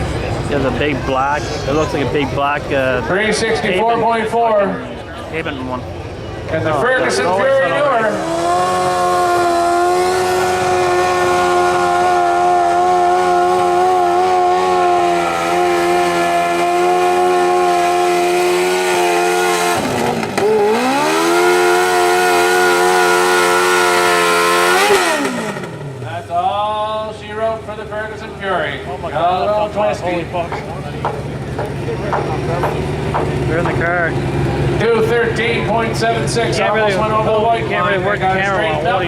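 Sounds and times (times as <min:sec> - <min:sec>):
tractor engine at high revs: 0:05.4 - 0:39.0.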